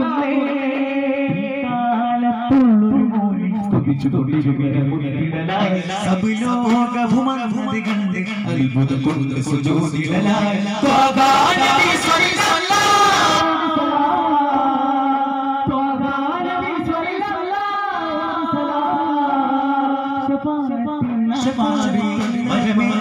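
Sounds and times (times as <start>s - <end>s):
men singing through sound system: 0.0s - 23.0s.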